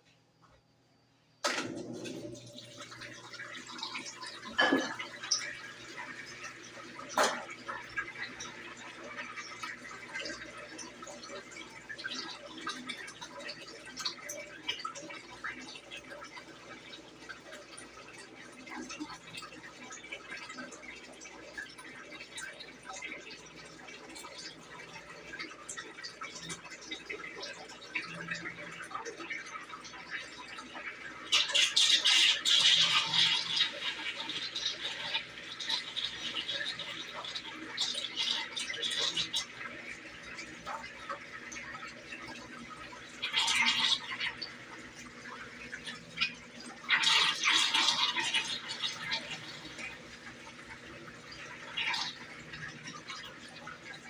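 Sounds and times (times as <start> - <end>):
water splashing in washing machine: 1.4 - 54.0.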